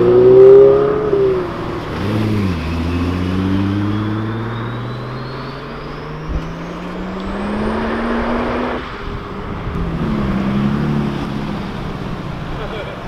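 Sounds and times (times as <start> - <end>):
car engine accelerating: 0.0 - 13.0
second car engine: 0.0 - 13.0.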